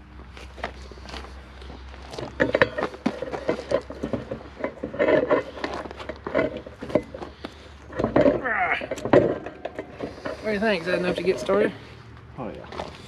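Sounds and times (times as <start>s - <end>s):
steel cable clicking and scraping: 0.4s - 13.0s.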